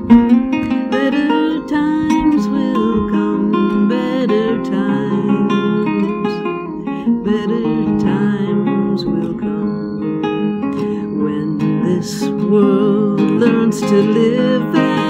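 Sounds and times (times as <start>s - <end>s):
harp guitar fingerstyle: 0.0s - 15.0s.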